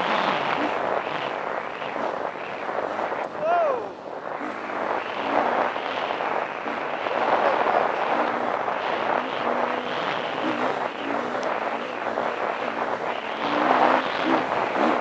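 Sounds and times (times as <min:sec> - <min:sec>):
dirt bike engine revving: 0:00.0 - 0:03.2, 0:04.3 - 0:15.0.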